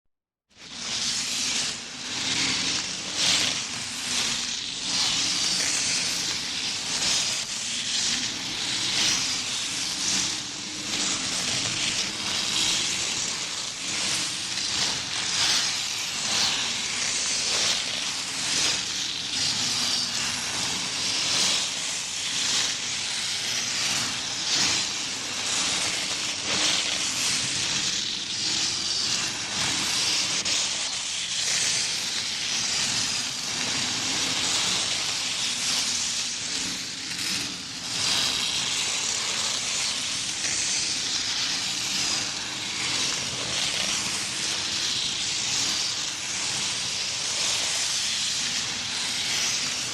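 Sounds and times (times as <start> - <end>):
skis hissing on snow: 0.6 - 49.9.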